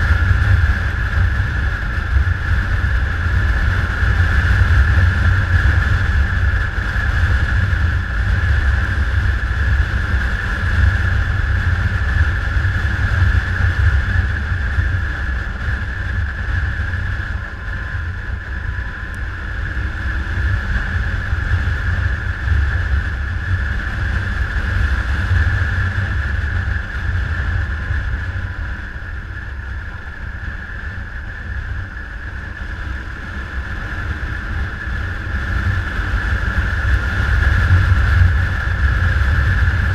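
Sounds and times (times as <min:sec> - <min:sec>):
motorcycle engine rumble: 0:00.0 - 0:39.9
wind noise on microphone: 0:00.0 - 0:39.9.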